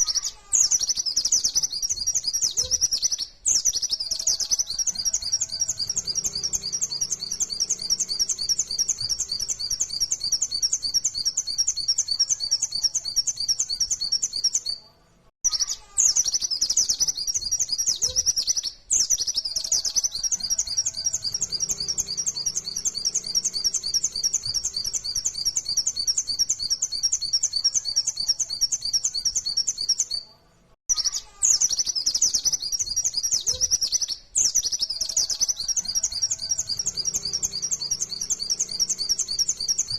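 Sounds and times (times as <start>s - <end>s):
bird singing high chirping notes: 0.0s - 14.8s, 15.4s - 30.3s, 30.9s - 39.9s.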